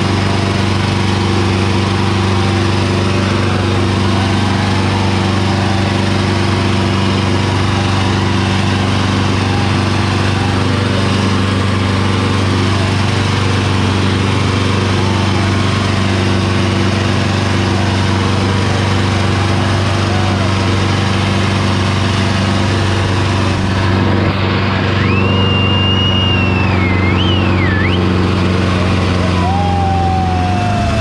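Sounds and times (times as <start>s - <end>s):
tractor diesel engine labouring: 0.0s - 31.0s.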